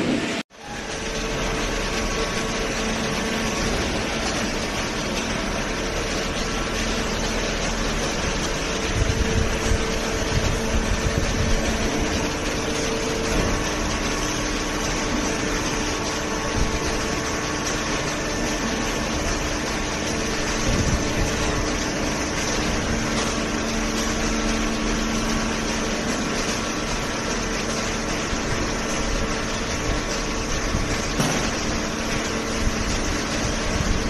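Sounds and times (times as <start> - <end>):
machinery humming and whirring: 0.0 - 34.0.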